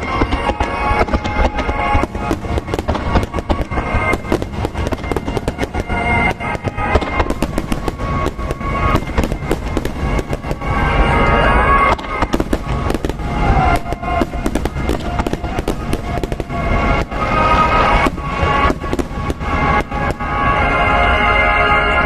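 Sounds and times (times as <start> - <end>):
fireworks bursting and crackling: 0.0 - 21.4
music playing: 0.0 - 22.0.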